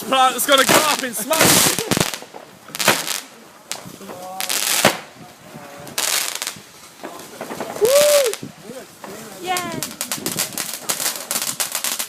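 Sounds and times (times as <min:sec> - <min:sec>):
faint voices: 0:00.0 - 0:11.3
fireworks bursting: 0:00.0 - 0:12.0.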